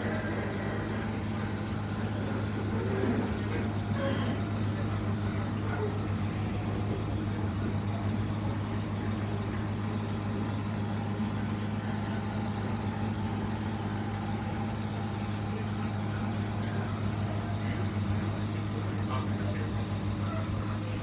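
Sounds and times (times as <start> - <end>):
air conditioner buzzing hum: 0.0 - 21.0.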